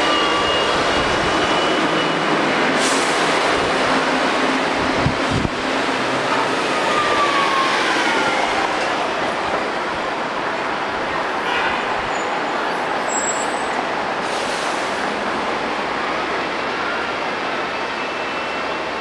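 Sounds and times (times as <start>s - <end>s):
buses running past: 0.0s - 19.0s.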